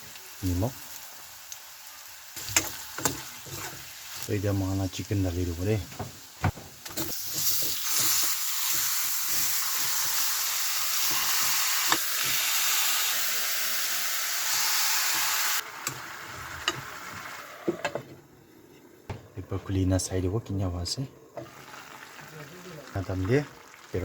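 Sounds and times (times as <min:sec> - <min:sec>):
food sizzling in hot oil: 0:00.0 - 0:17.8, 0:21.4 - 0:24.0.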